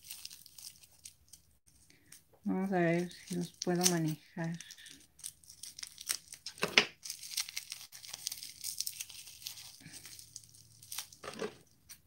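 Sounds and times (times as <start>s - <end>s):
plastic wrap crinkling and tearing: 0.0s - 2.2s, 2.8s - 12.0s.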